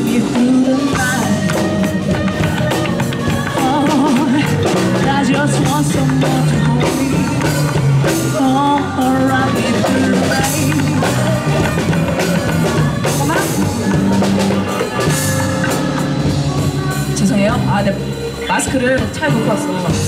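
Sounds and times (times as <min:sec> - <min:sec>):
bass guitar line: 0:00.0 - 0:20.0
drum kit beat: 0:00.0 - 0:20.0.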